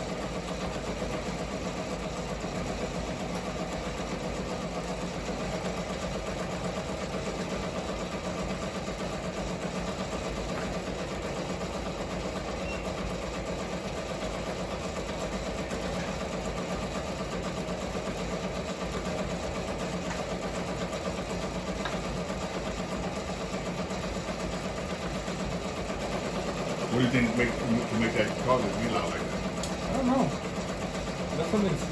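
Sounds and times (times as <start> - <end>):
embroidery machine stitching: 0.0 - 31.9.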